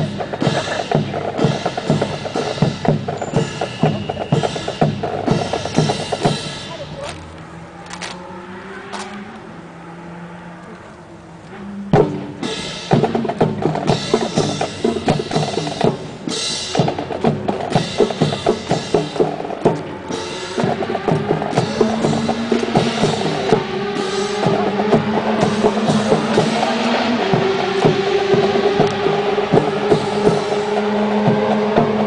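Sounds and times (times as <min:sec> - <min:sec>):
drum-led music: 0:00.0 - 0:07.4, 0:11.8 - 0:32.0
held notes: 0:00.0 - 0:32.0.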